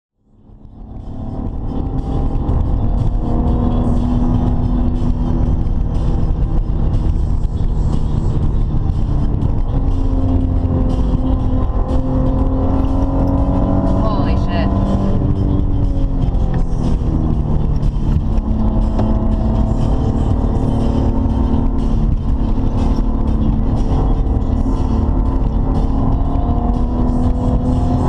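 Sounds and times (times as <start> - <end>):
road and tyre rumble: 0.1 - 28.0
car engine cruising: 0.2 - 28.0.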